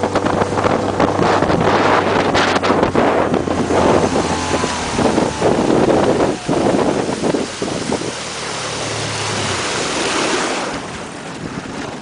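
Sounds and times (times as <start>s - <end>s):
outboard motor running: 0.0s - 12.0s
water rushing past boat hull: 0.0s - 12.0s
wind buffeting microphone: 0.0s - 12.0s.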